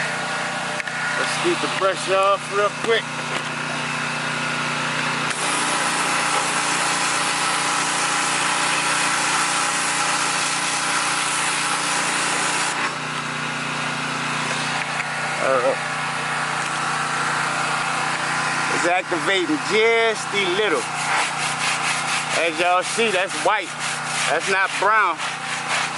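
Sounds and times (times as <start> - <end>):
pressure washer spray hissing: 0.0 - 3.2, 3.8 - 13.1, 14.2 - 25.9
pressure washer hum: 0.0 - 25.9.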